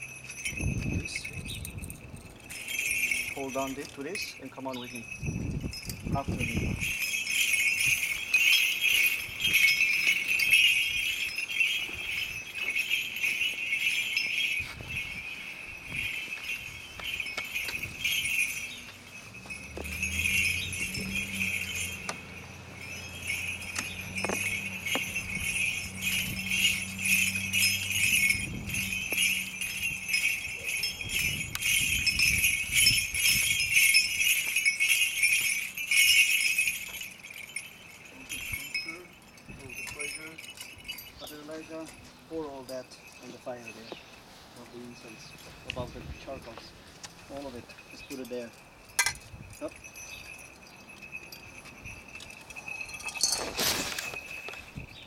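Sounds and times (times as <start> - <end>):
censer bells jingling: 0.0 - 55.0.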